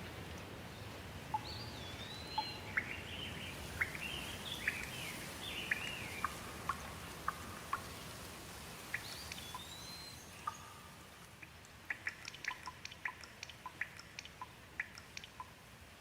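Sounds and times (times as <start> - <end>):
rain dripping: 0.0 - 16.0
soft hiss: 0.0 - 16.0.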